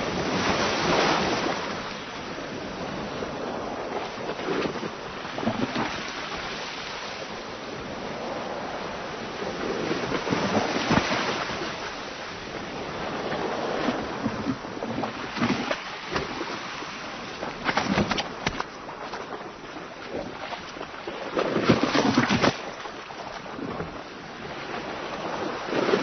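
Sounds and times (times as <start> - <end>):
waves slapping against boat hull: 0.0 - 7.5, 9.4 - 26.0.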